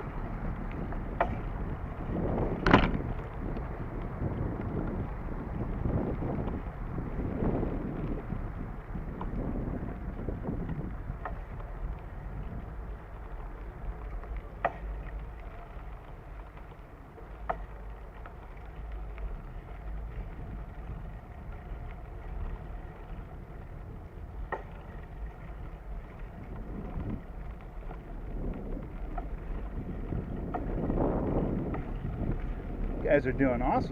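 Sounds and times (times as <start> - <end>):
tyres rolling over dirt trail: 0.0 - 33.9
wind buffeting microphone: 0.0 - 33.9
bike knocking over bumps: 0.8 - 4.9, 9.1 - 33.1.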